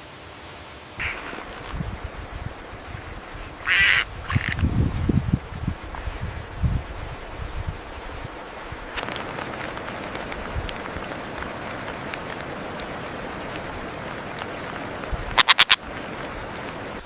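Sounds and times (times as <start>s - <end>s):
rainforest ambience hiss: 0.0s - 17.0s.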